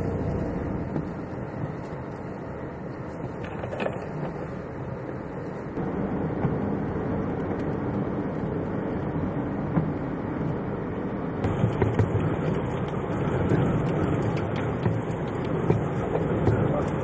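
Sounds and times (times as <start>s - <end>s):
road and wind noise inside car: 0.0s - 17.0s.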